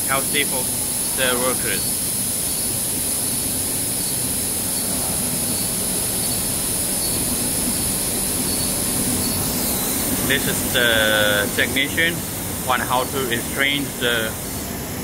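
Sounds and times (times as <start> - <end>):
high machine whine: 0.0 - 15.0
production line hum and hiss: 0.0 - 15.0.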